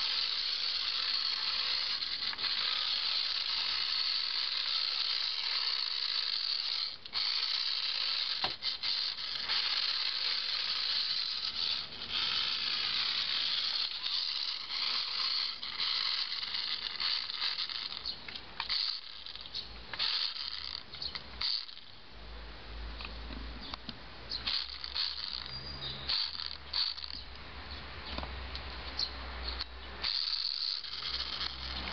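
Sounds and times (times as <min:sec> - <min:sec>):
toy car motor whirring: 0:00.0 - 0:22.0, 0:23.0 - 0:27.4, 0:28.9 - 0:31.9.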